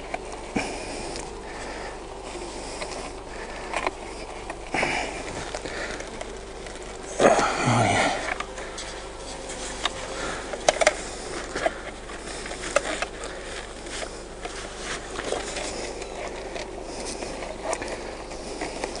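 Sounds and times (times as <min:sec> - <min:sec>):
clicks and knocks of hive boxes: 0:00.0 - 0:19.0
faint background hum: 0:00.0 - 0:19.0.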